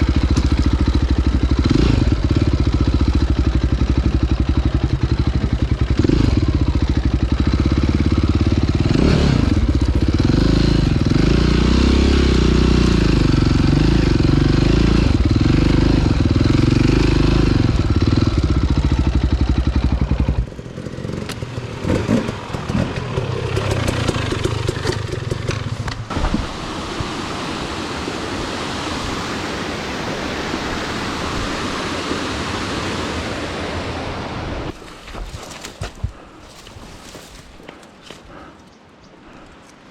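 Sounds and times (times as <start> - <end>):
dirt bike engine revving: 0.0 - 34.8.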